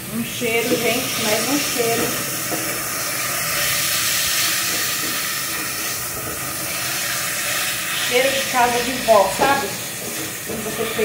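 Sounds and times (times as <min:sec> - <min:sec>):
ground beef sizzling in a saucepan: 0:00.0 - 0:11.0
spatula stirring: 0:00.6 - 0:11.0.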